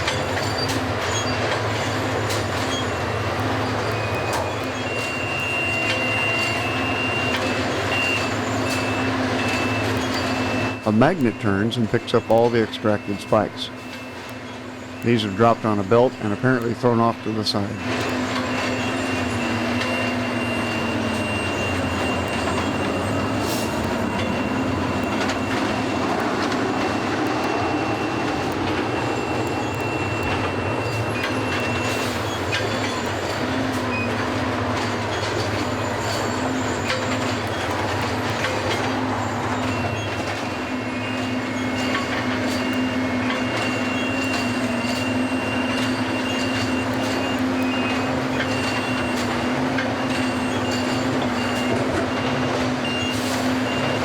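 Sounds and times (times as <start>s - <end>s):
train machinery engine drone: 0.0s - 54.0s.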